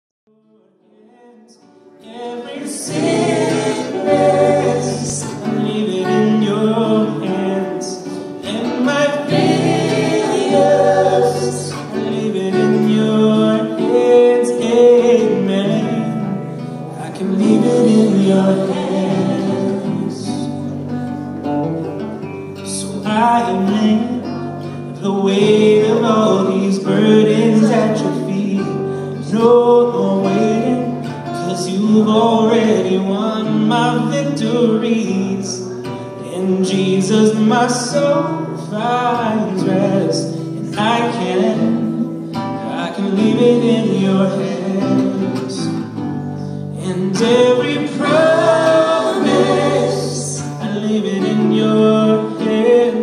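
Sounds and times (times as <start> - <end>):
acoustic guitar: 0.3 - 53.0
man singing into a microphone: 3.8 - 9.6, 10.5 - 20.6, 22.6 - 46.0, 46.7 - 53.0.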